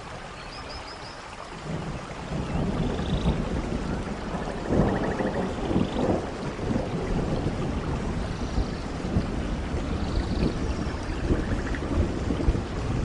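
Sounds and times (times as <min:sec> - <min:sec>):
steady rain: 0:00.0 - 0:13.0
low rumbling thunder: 0:01.6 - 0:13.0.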